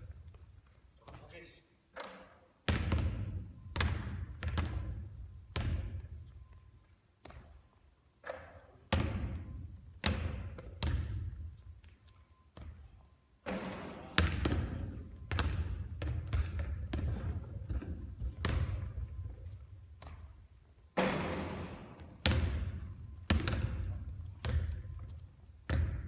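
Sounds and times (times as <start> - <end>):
basketball bouncing on hard court: 2.0 - 6.3, 7.2 - 7.6, 8.2 - 12.0, 12.6 - 20.4, 21.0 - 26.0.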